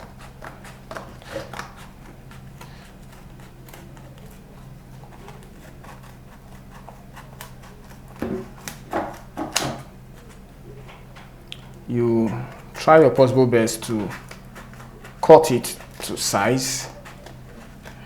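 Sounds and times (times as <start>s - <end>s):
cardboard being cut by hand: 0.0s - 10.5s, 13.7s - 18.0s.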